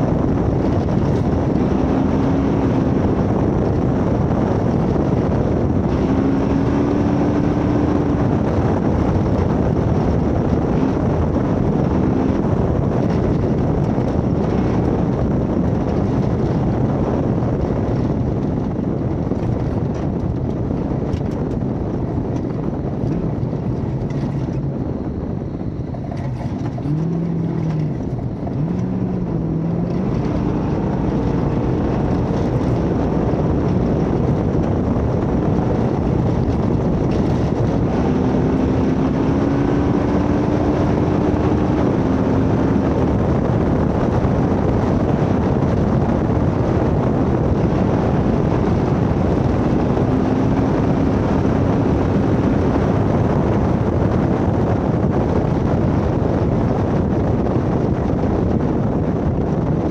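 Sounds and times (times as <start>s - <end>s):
road noise: 0.0s - 59.9s
wind noise: 0.0s - 59.9s.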